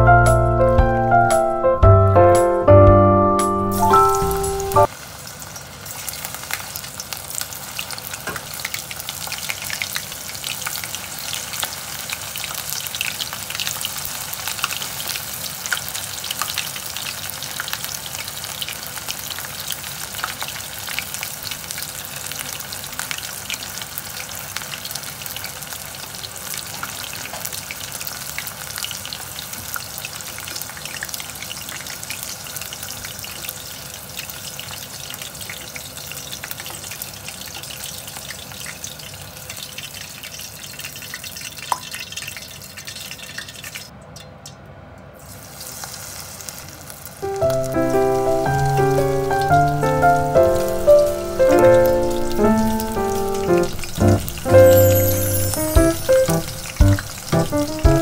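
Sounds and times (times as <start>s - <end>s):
shrimp deep-frying in oil: 3.8s - 58.0s.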